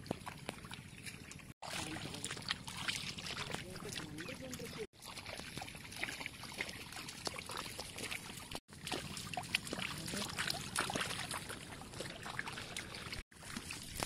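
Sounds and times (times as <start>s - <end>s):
muddy water splashing: 0.0s - 14.0s
people wading through mud: 0.0s - 14.0s.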